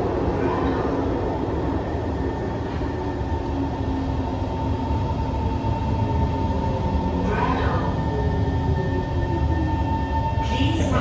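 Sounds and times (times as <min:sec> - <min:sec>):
train whine: 0:00.0 - 0:11.0.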